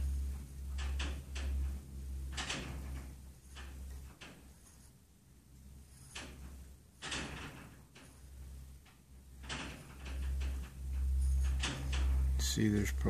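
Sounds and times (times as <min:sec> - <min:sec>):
low hum: 0:00.0 - 0:13.0
metal-on-metal scraping rubs: 0:00.0 - 0:13.0.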